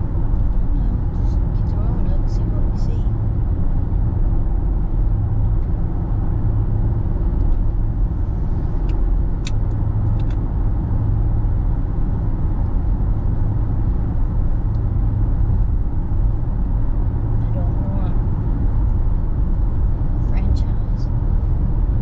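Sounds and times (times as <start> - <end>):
car driving on road: 0.0 - 22.0.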